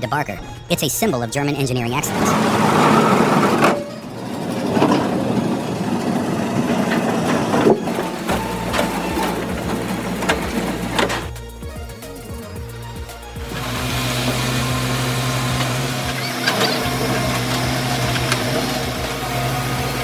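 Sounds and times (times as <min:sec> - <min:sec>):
machine grinding and crushing logs: 0:01.9 - 0:20.0
low engine hum: 0:02.0 - 0:20.0.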